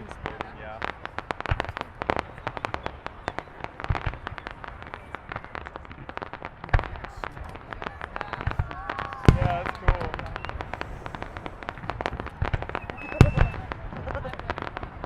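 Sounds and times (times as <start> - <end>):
fireworks crackling pops: 0.0 - 15.0
fireworks deep booms: 0.0 - 15.0.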